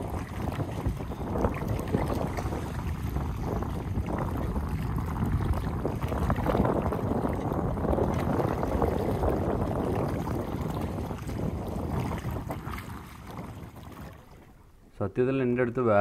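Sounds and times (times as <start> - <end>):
wind buffeting microphone: 0.0 - 14.8
water sloshing and lapping: 0.0 - 15.0.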